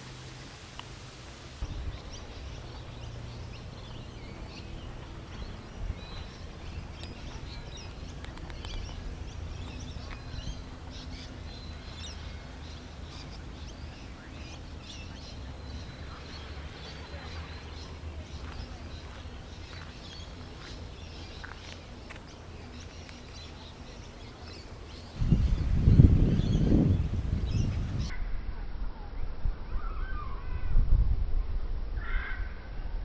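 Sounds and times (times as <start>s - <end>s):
steady low rumble: 0.0s - 33.0s
birds chirping and calling: 1.6s - 28.1s.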